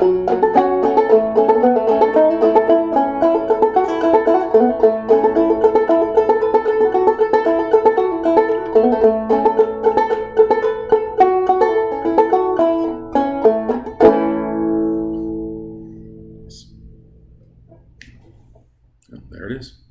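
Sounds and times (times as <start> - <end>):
banjo picking: 0.0 - 17.9.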